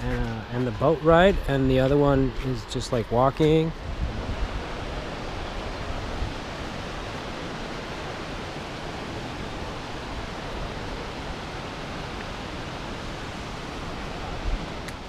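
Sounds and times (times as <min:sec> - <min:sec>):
distant waterfall rushing: 0:00.0 - 0:15.0.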